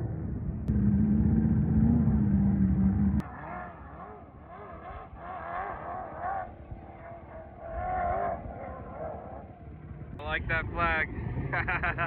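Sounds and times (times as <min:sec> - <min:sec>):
off-road vehicle engines revving: 0:00.0 - 0:12.0.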